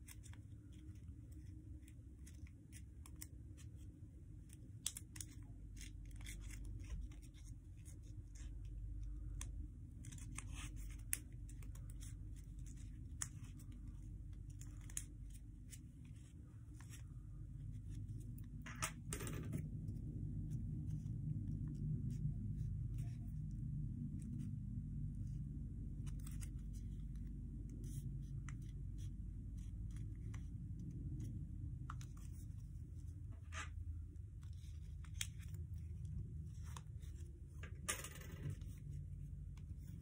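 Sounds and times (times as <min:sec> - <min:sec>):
paper crinkling and rustling: 0:04.5 - 0:37.8.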